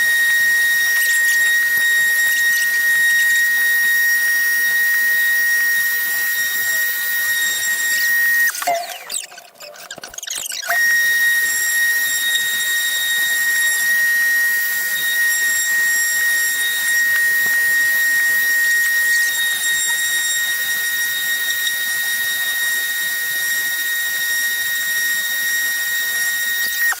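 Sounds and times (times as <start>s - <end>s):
woodworking power tool whining: 0.0s - 27.0s.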